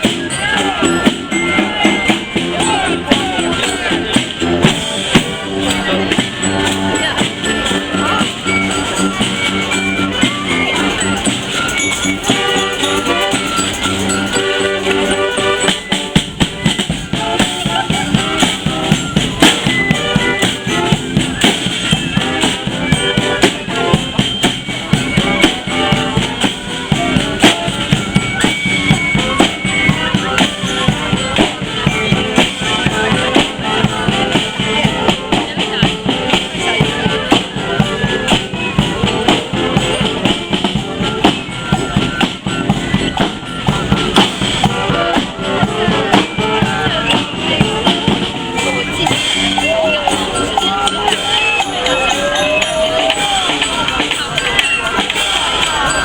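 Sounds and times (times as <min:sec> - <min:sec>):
brass horns playing: 0:00.0 - 0:42.1, 0:43.2 - 0:53.6
fast drumming: 0:00.0 - 0:56.0.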